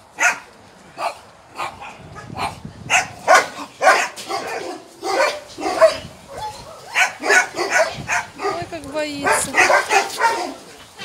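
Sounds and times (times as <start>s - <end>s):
dog barking: 0.2s - 10.7s.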